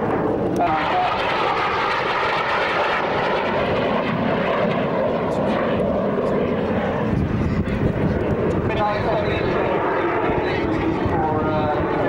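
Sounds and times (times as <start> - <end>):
aircraft engine in flight: 0.0 - 12.0.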